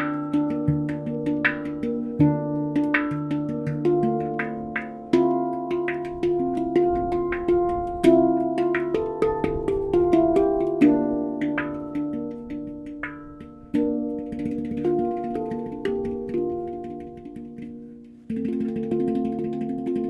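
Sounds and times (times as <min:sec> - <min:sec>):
handpan melody: 0:00.0 - 0:20.0.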